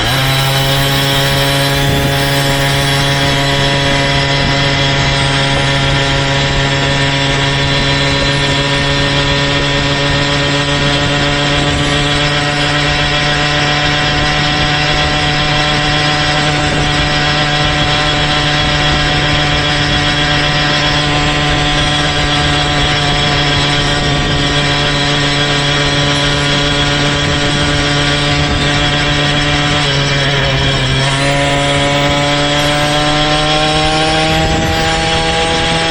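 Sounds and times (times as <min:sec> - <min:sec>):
small engine running: 0:00.0 - 0:35.9.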